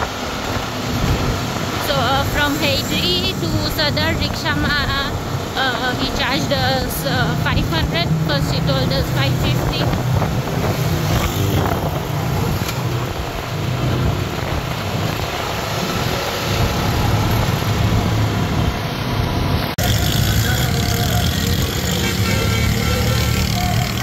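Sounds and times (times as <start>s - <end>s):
auto-rickshaw engine rumble: 0.0s - 24.0s
road noise: 0.0s - 24.0s.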